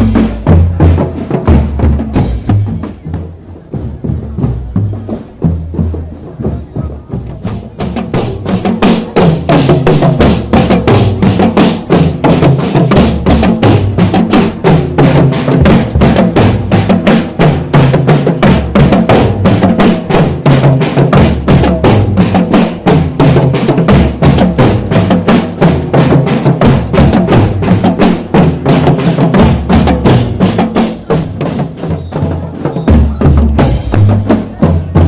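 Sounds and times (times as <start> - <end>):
bass drums: 0.0 - 35.0
snare drums: 0.0 - 35.0.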